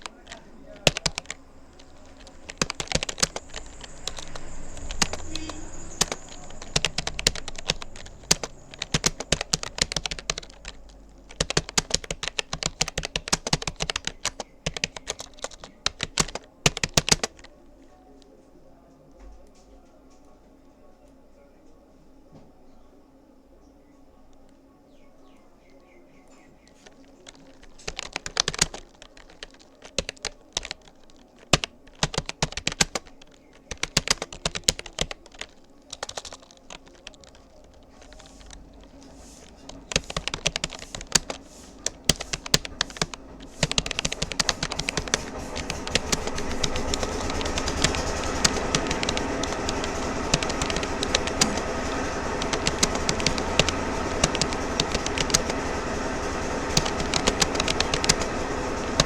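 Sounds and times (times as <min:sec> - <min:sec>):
keyboard typing clicks: 0:00.0 - 0:17.5, 0:26.4 - 0:59.0
steady background noise: 0:00.0 - 0:59.0.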